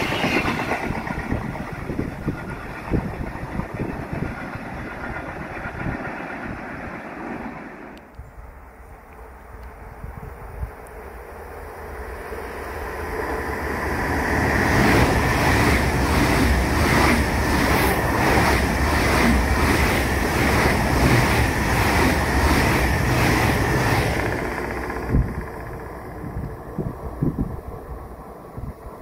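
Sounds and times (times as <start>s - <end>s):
high-speed train passing: 0.0s - 29.0s.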